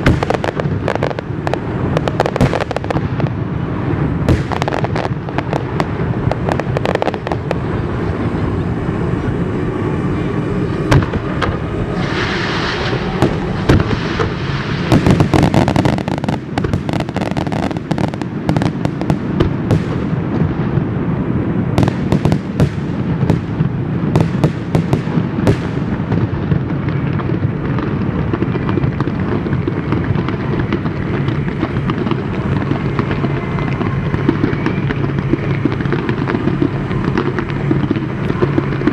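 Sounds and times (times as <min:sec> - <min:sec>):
firework hissing rush: 0:00.0 - 0:38.9
fireworks crackling: 0:00.0 - 0:38.9.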